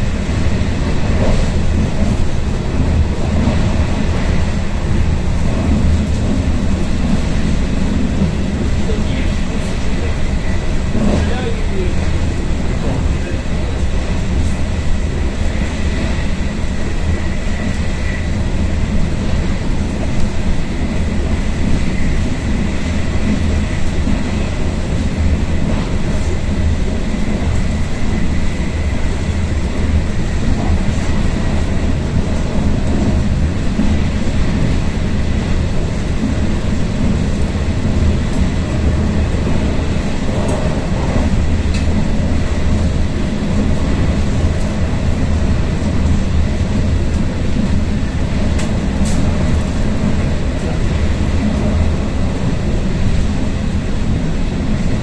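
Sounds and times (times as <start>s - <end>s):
train wheels and air rumble: 0.0s - 55.0s.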